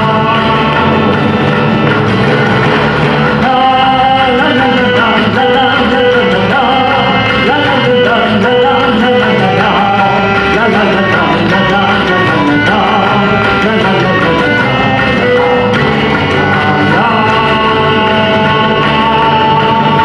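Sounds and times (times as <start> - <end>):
live rock band playing: 0.0 - 20.0
steady drum beat: 0.0 - 20.0.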